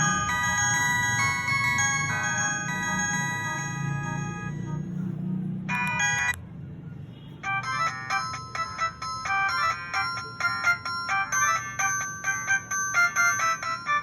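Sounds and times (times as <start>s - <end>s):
phone ringtone bell-like melody: 0.0s - 5.1s, 5.7s - 6.4s, 7.4s - 14.0s.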